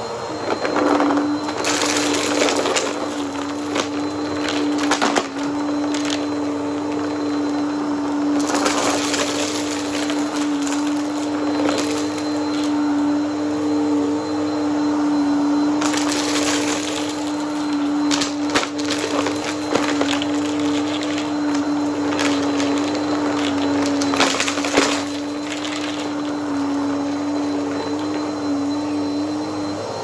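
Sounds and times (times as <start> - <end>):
vacuum cleaner motor hum: 0.0 - 30.0
debris crackling in vacuum: 0.4 - 14.4, 15.6 - 28.5.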